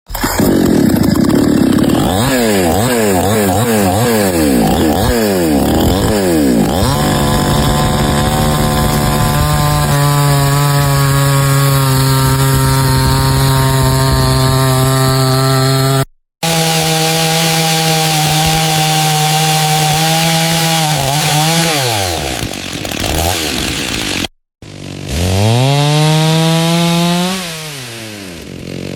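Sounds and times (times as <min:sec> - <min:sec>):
chainsaw engine revving: 0:00.1 - 0:28.9.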